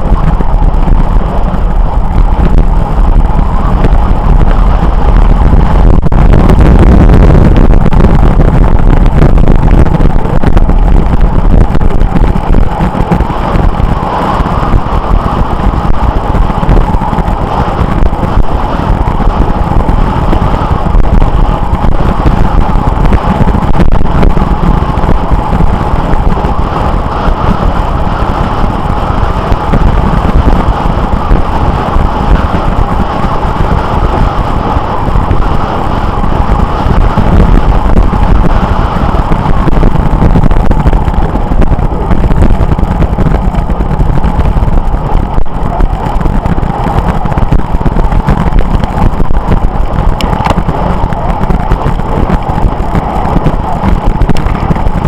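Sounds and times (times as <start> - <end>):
road noise: 0.0 - 55.0
wind rushing on microphone: 0.0 - 55.0.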